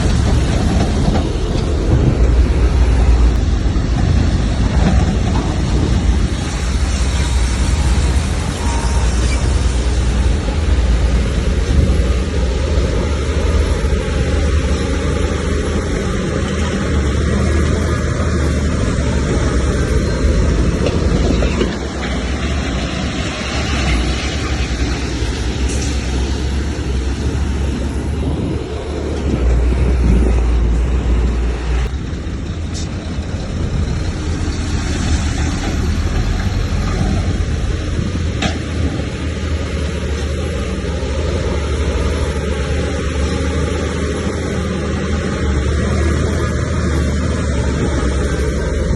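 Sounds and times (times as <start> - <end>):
diesel earthmoving machinery rumbling: 0.0 - 48.9.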